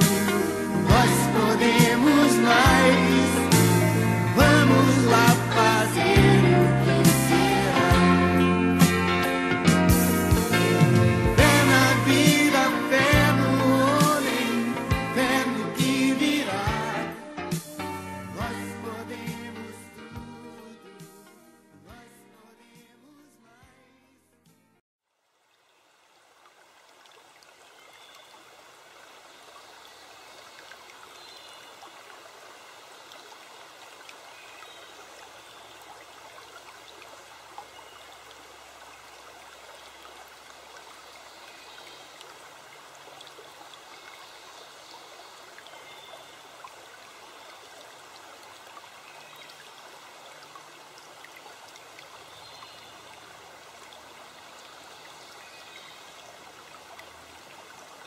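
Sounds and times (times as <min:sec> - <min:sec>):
rush of flowing water: 0:00.0 - 0:19.9, 0:25.3 - 0:58.0.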